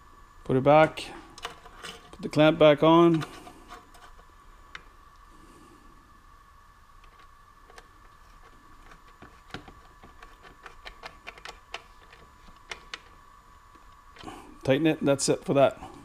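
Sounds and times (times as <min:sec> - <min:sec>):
faint steady high hum: 0:00.0 - 0:16.0.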